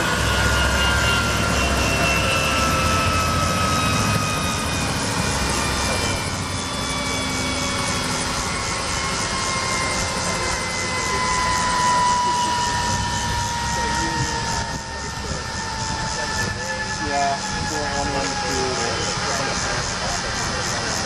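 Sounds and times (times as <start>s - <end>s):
helicopter rotor beat: 0.0s - 21.0s
turbine engine whine: 0.0s - 21.0s.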